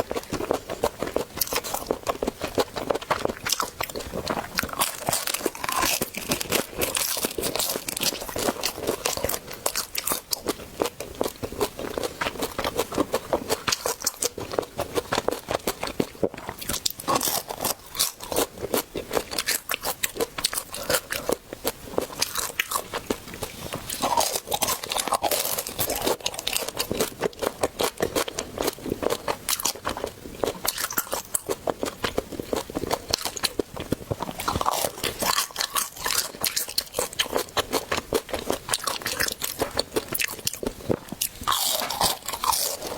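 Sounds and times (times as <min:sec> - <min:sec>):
person chewing crunchy food: 0:00.0 - 0:42.9.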